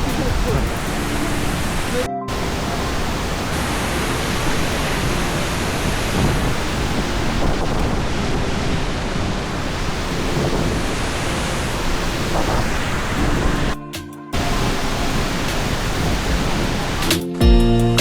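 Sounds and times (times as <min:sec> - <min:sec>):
waterfall roaring: 0:00.0 - 0:13.8, 0:14.4 - 0:17.1.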